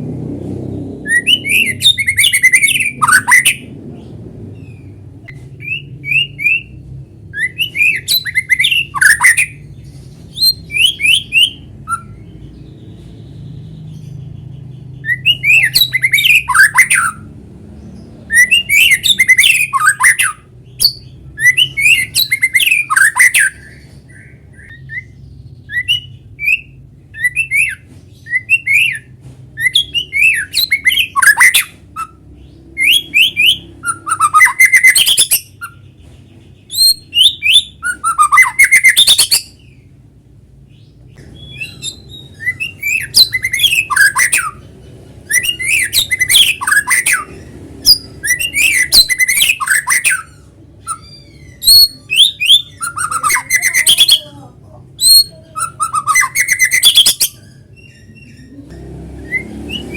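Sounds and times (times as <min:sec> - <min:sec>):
bird singing whistled notes: 0:01.1 - 0:03.7, 0:04.6 - 0:09.7, 0:10.3 - 0:17.3, 0:18.2 - 0:35.9, 0:36.7 - 0:39.9, 0:41.4 - 0:44.6, 0:45.3 - 0:54.3, 0:55.0 - 0:58.6, 0:59.2 - 0:59.9.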